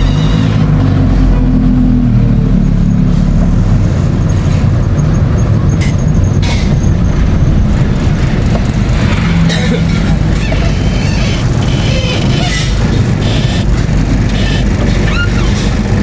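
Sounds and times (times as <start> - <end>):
road noise: 0.0 - 16.0
vehicle engine running: 0.0 - 16.0.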